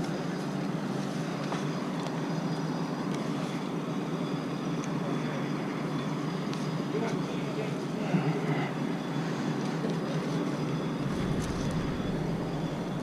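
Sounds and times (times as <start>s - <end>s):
steady engine rumble: 0.0s - 13.0s.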